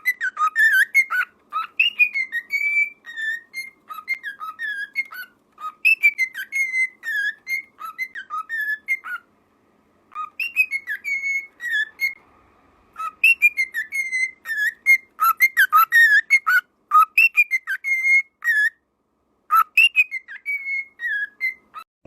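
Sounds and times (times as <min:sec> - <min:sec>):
cockatiel whistling a tune: 0:00.0 - 0:09.3, 0:10.1 - 0:12.2, 0:13.0 - 0:18.8, 0:19.5 - 0:21.9.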